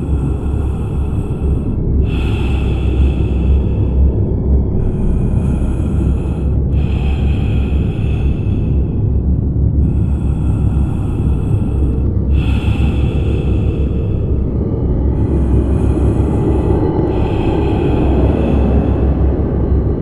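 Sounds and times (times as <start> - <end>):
airy tonal layer: 0.0 - 20.0
low rumble drone: 0.0 - 20.0.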